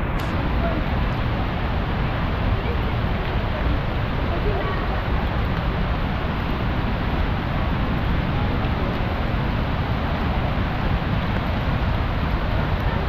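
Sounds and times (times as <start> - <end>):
falling rain: 0.0 - 13.0
roar of river and waterfall: 0.0 - 13.0.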